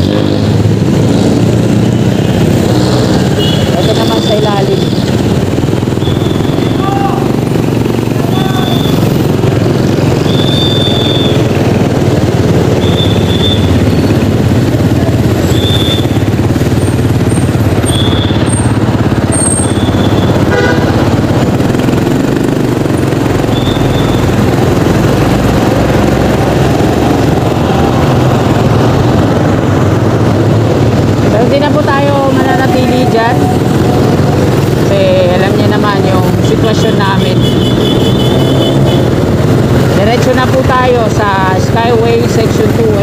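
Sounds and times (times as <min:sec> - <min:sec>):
motorcycle engine rumble: 0:00.0 - 0:43.0.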